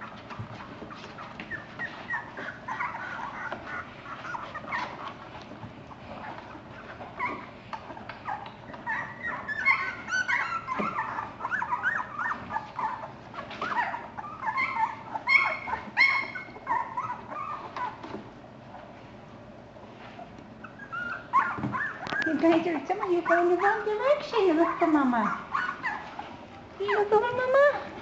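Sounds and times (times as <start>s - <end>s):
puppies squeaking and whimpering: 0.0s - 19.0s, 19.7s - 28.0s.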